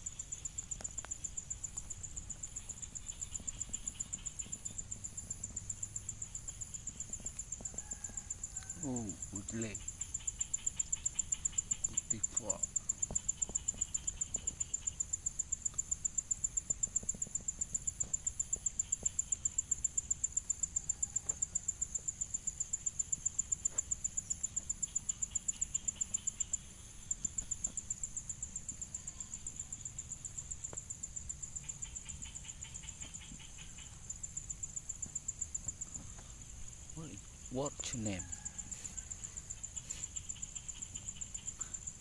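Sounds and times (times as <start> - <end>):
high-pitched pulsing insect call: 0.0 - 42.0.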